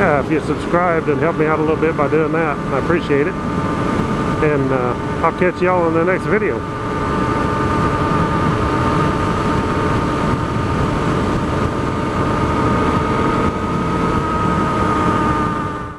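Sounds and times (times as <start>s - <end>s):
motorcycle engine cruising: 0.0s - 15.9s
wind rushing: 0.0s - 15.9s.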